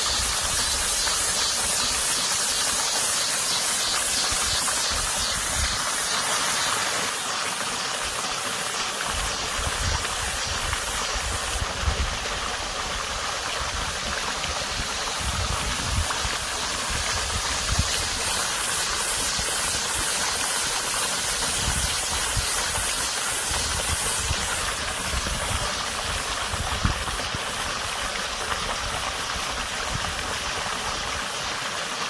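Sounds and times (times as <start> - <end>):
cicada buzzing: 0.0 - 12.7, 14.3 - 28.4
water running in a stream: 0.0 - 32.0.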